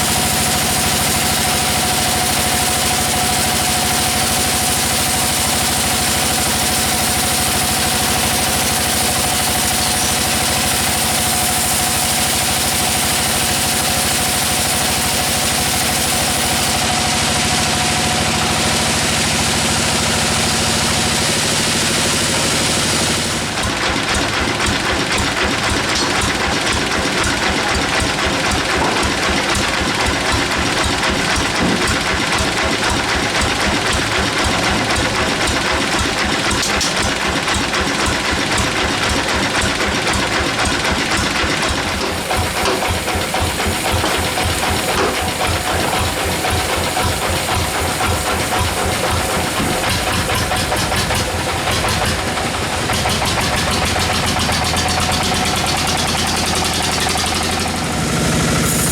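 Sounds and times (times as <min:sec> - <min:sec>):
engine pulsing: 0:00.0 - 0:58.9
sawmill machinery whining: 0:00.0 - 0:58.9.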